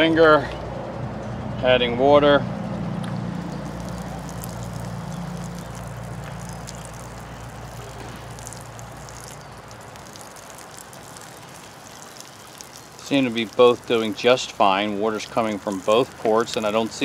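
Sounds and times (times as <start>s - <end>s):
water pouring through a tube: 3.4s - 17.0s.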